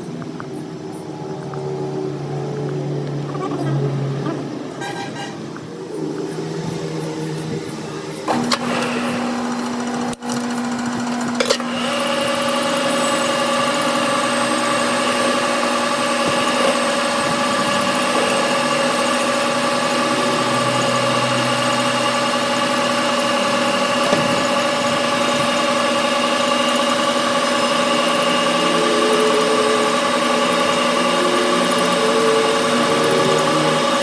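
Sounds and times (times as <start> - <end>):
high whine: 0.0 - 34.0
workshop machine humming: 0.0 - 34.0.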